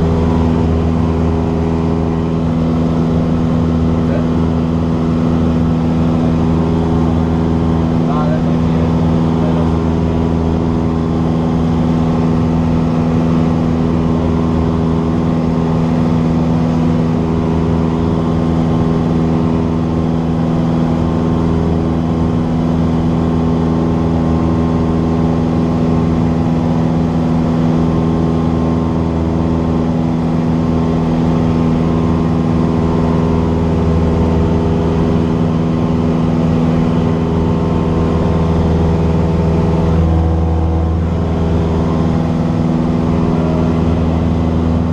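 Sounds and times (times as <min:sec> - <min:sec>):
airplane propeller engine running: 0:00.0 - 0:44.9.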